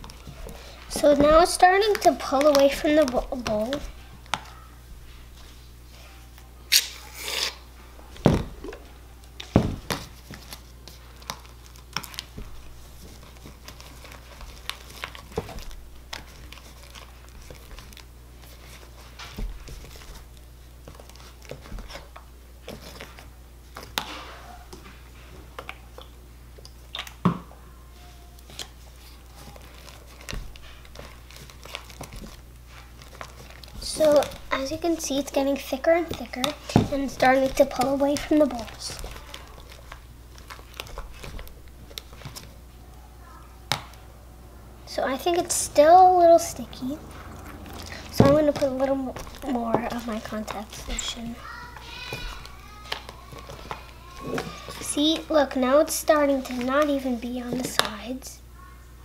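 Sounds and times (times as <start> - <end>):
slime squishing: 0.0 - 4.6, 6.7 - 27.3, 28.4 - 44.2, 44.9 - 58.1.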